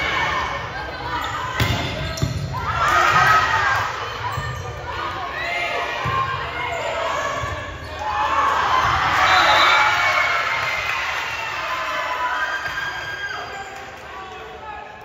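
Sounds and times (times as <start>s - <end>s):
crowd shouting and cheering: 0.0s - 15.0s.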